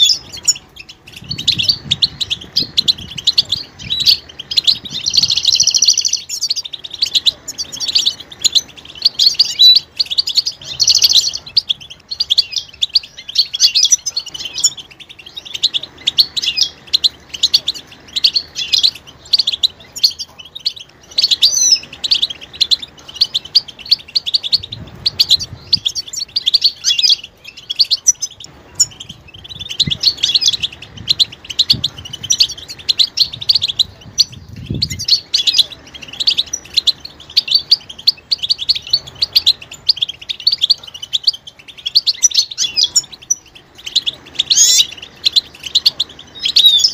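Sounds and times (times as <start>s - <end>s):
finches twittering: 0.0s - 46.9s.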